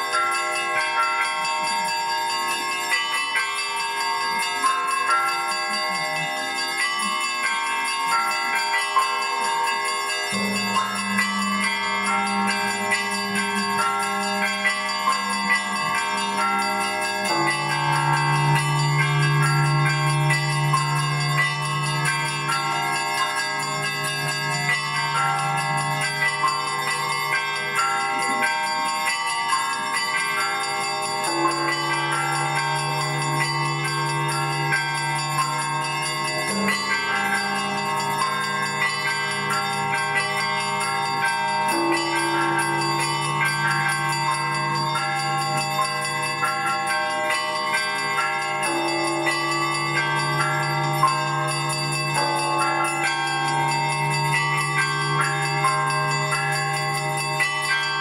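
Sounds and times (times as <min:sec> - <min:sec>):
deep bells humming: 0:00.0 - 0:58.0
small bells chiming quickly: 0:00.0 - 0:58.0.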